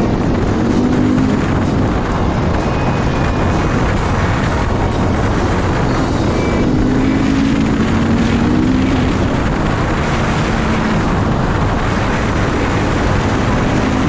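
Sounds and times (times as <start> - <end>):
motorcycle engine: 0.0 - 14.0
road noise: 0.0 - 14.0
wind noise: 0.0 - 14.0.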